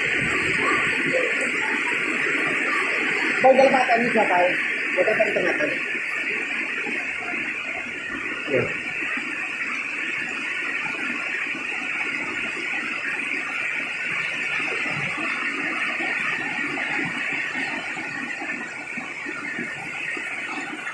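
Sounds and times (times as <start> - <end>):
heavy rain on street and roofs: 0.0 - 20.9.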